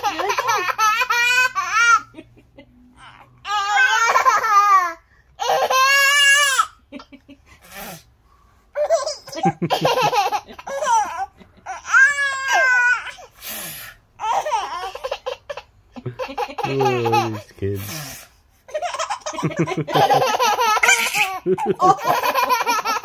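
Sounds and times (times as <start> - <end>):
baby laughing: 0.0 - 2.2, 3.0 - 7.2, 8.8 - 13.2, 14.2 - 17.7, 18.7 - 23.0.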